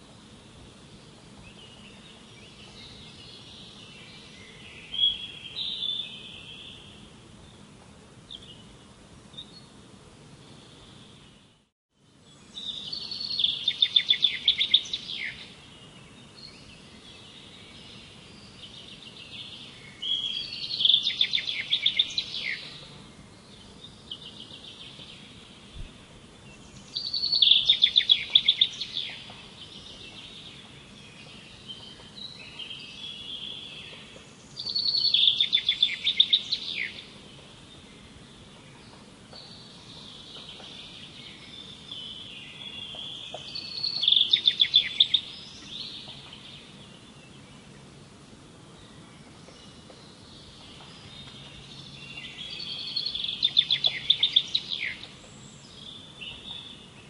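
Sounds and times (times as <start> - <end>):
faint bird chirping: 0.0 - 57.0.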